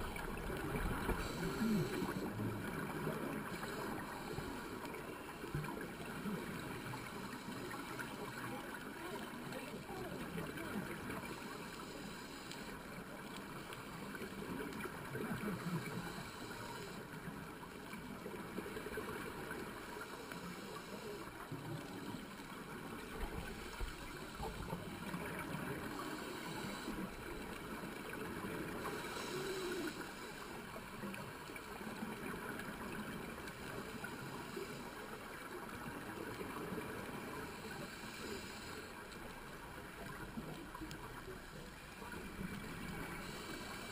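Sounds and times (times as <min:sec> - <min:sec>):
regulator hiss on inhale: 0:00.5 - 0:08.3, 0:11.2 - 0:14.7, 0:15.5 - 0:17.4, 0:18.7 - 0:31.1, 0:33.6 - 0:42.0, 0:42.7 - 0:43.9.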